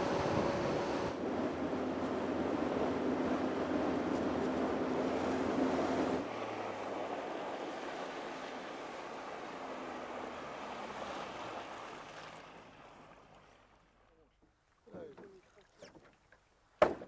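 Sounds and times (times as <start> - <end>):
outboard motor hum: 0.0 - 16.7
wind: 0.0 - 17.0
rushing water: 2.2 - 16.4.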